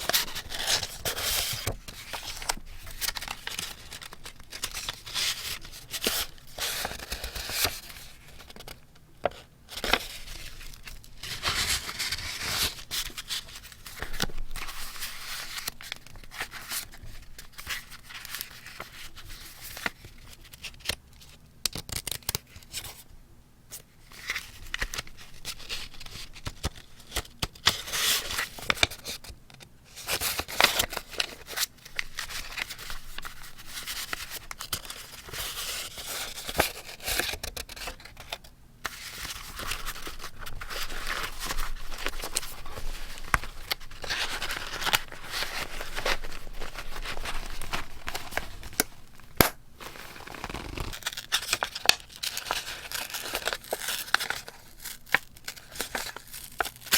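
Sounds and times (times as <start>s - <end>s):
paper rustling and crinkling: 0.0s - 21.0s, 24.1s - 56.9s.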